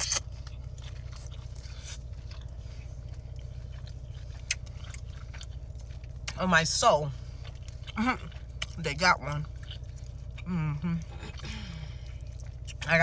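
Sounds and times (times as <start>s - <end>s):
chewing: 0.0s - 13.0s
steady low hum: 0.0s - 13.0s.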